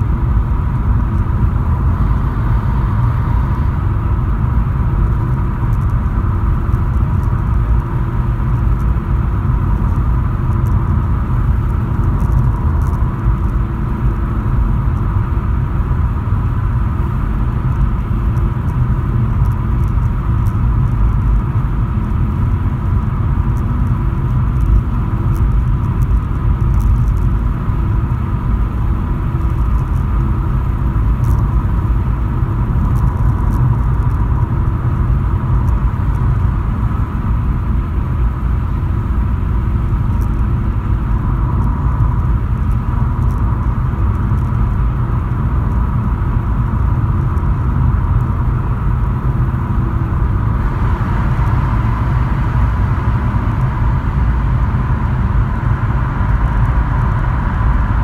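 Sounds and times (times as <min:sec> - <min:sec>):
car cabin tyre and engine rumble: 0:00.0 - 0:58.0.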